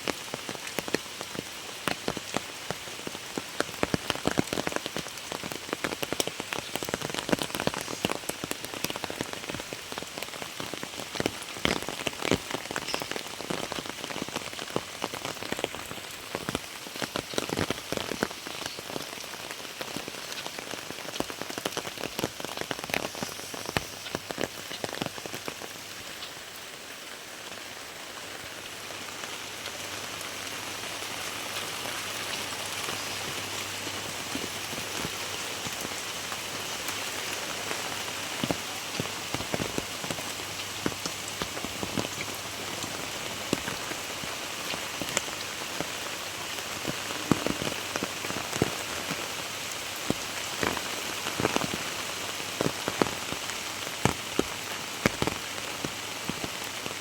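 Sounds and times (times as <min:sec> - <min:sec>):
close raindrop impacts: 0:00.0 - 0:57.0
heavy rain falling: 0:00.0 - 0:57.0.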